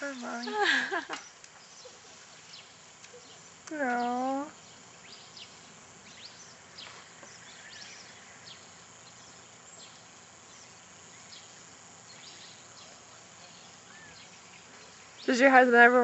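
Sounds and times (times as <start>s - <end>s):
steady outdoor hiss: 0.0s - 16.0s
high bird chirps: 1.2s - 15.5s.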